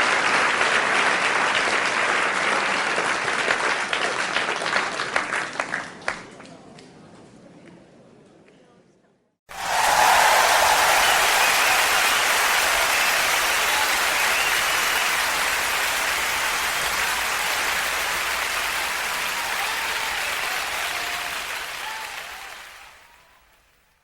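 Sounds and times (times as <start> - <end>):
audience applauding: 0.0 - 6.2, 9.5 - 24.0.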